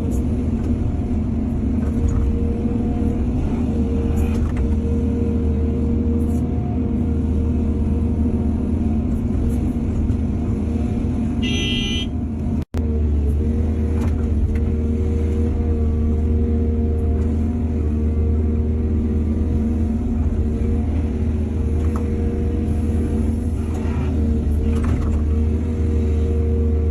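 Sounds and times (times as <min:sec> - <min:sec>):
excavator diesel engine rumbling: 0:00.0 - 0:26.9.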